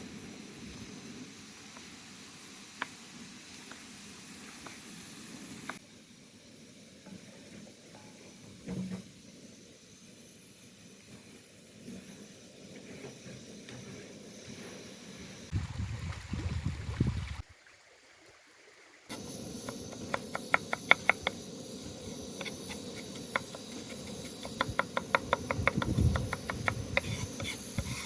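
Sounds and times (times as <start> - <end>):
fire crackles: 0.0 - 8.4, 9.0 - 17.4, 19.1 - 28.0
food sizzling: 0.0 - 15.6, 19.1 - 28.0.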